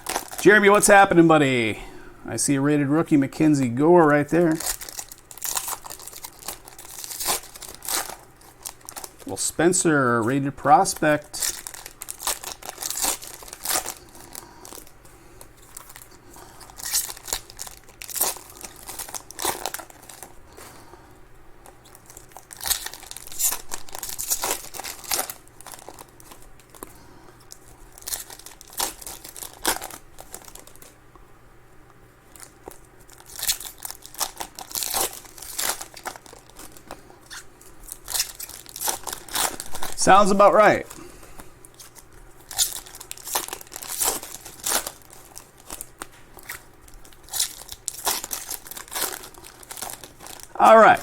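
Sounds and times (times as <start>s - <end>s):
plastic wrappers tearing and crinkling: 0.0s - 1.6s, 4.1s - 20.7s, 21.6s - 31.0s, 32.3s - 51.0s.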